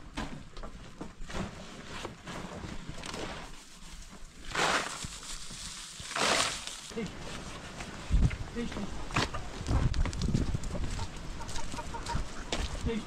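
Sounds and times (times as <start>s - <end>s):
dry hay rustling and crackling: 2.4s - 13.0s.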